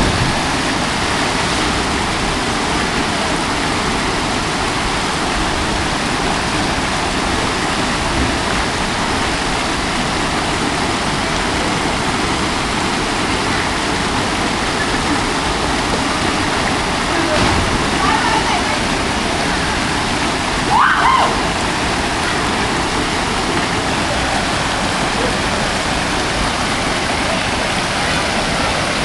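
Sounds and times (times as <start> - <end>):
waterfall pouring into pool: 0.0 - 29.0.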